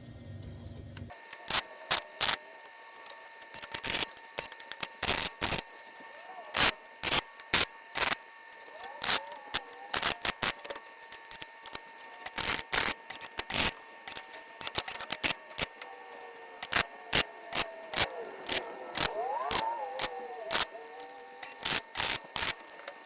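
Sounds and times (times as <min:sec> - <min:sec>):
welder crackling bursts: 0:01.1 - 0:23.0.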